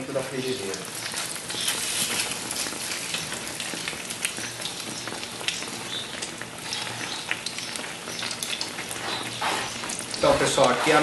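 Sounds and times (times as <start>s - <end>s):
bread frying in hot oil: 0.0s - 11.0s.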